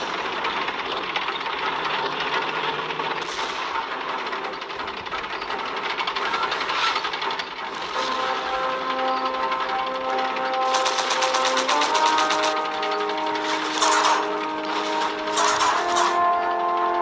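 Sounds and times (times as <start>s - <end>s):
tanks rattling and clanking: 0.0s - 17.0s.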